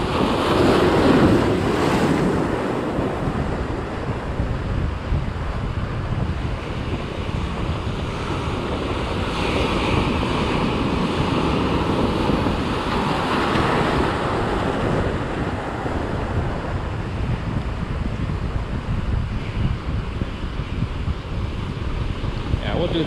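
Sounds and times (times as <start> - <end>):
ocean surf breaking on rocks: 0.0 - 23.0
wind rumble on microphone: 0.0 - 23.0.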